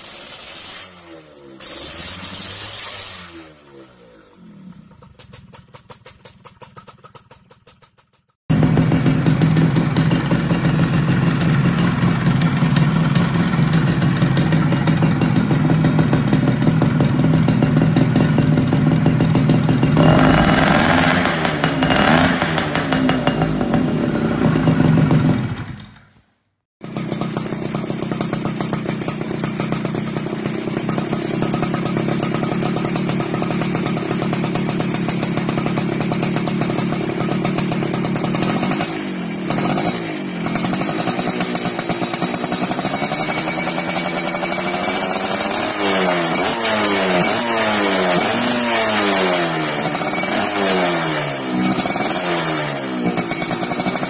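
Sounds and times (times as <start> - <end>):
two-stroke engine revving: 0.0 - 25.9, 26.8 - 54.0.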